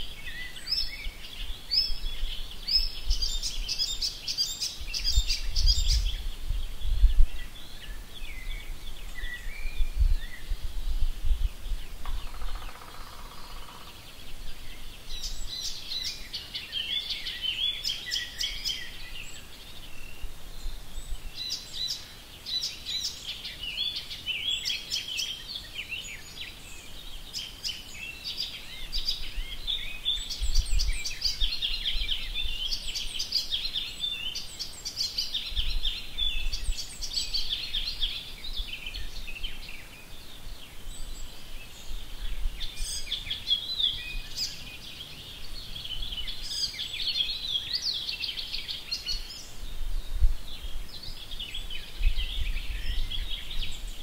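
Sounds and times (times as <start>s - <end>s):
birds singing: 0.0s - 54.0s.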